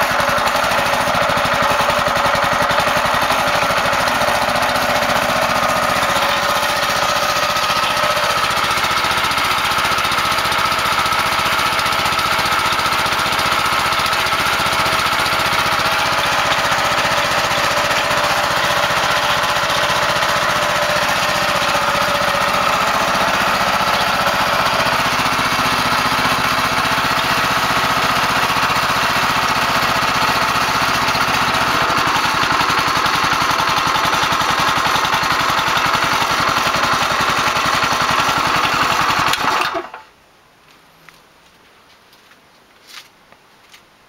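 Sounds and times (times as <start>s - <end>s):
engine idling: 0.0s - 40.1s.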